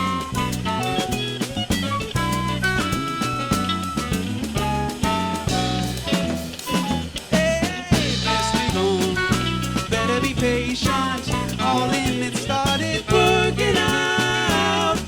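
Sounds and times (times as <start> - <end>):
drum kit: 0.0 - 15.0
live band playing instrumental: 0.0 - 15.0.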